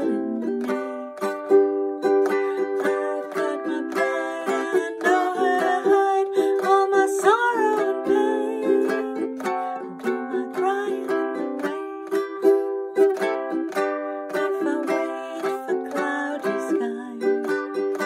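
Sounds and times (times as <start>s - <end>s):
ukulele strumming: 0.0s - 18.0s
woman singing: 0.0s - 18.0s.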